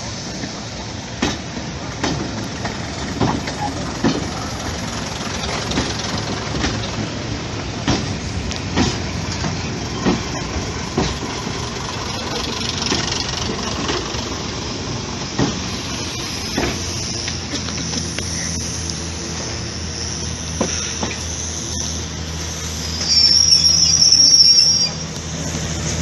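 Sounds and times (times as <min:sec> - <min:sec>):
train running rumble: 0:00.0 - 0:26.0
wheels clacking over rail joints: 0:00.2 - 0:24.3.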